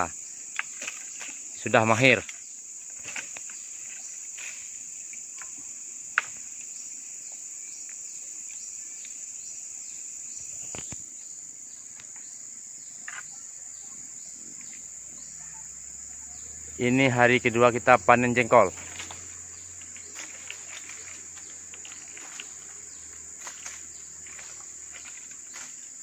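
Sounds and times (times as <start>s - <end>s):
insect chorus shrilling: 0.0s - 26.0s.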